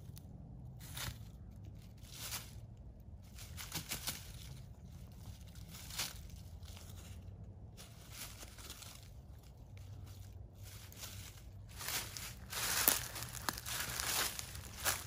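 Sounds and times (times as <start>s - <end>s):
dry leaves rustling and crunching: 0.8s - 15.0s.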